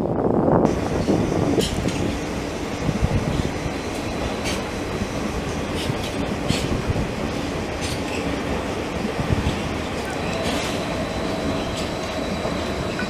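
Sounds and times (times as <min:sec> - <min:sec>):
train wheels rumbling on rails: 0:00.0 - 0:13.0
high clicks from train wheels: 0:00.9 - 0:13.0.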